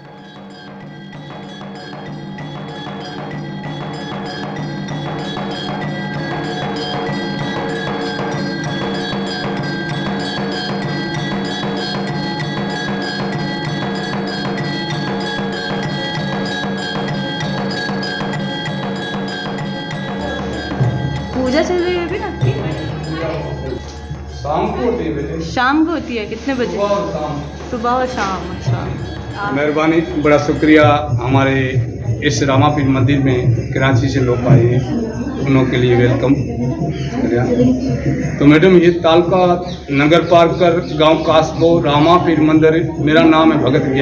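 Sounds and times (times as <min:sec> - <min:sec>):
bells ringing rapidly: 0:00.0 - 0:44.0
percussive beat: 0:00.0 - 0:44.0.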